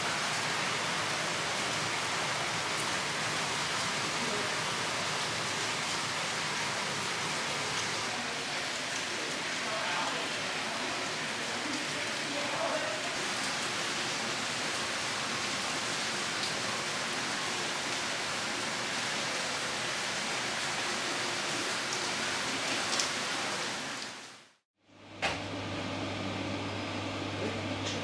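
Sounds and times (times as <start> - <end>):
heavy rain hissing: 0.0 - 24.6
washing machines humming: 0.0 - 28.0.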